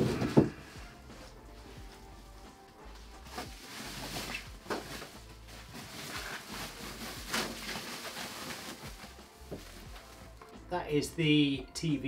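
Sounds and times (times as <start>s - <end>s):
plastic bag and foam rustling: 0.0s - 10.5s.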